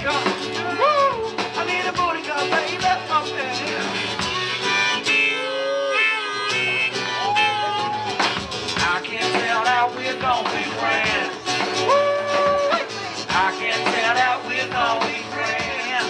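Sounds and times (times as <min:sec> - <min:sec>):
drum kit: 0:00.0 - 0:05.0, 0:07.2 - 0:16.0
strummed acoustic guitar: 0:00.0 - 0:16.0.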